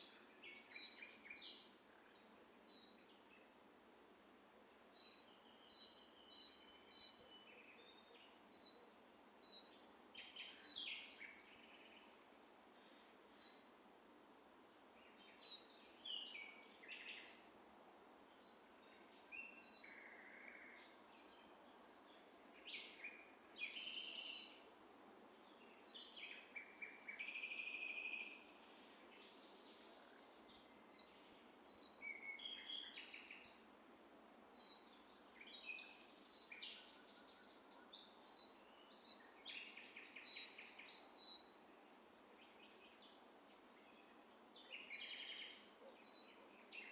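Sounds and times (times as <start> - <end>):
songbirds chirping and trilling: 0.0 - 13.8, 14.5 - 46.9
steady background hiss: 0.0 - 46.9.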